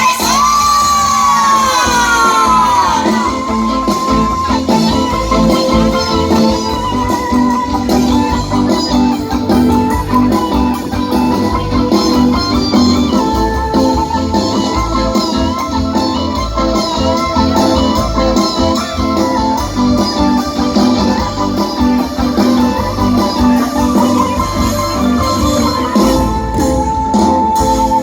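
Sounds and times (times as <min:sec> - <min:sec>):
bass line: 0:00.0 - 0:28.0
keyboard: 0:00.0 - 0:28.0
plucked guitar melody: 0:02.6 - 0:28.0.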